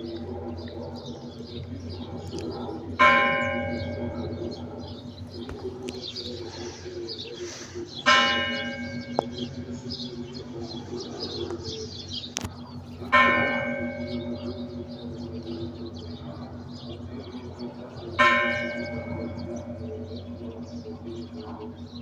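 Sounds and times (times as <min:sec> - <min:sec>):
church bell ringing: 0:00.0 - 0:22.0.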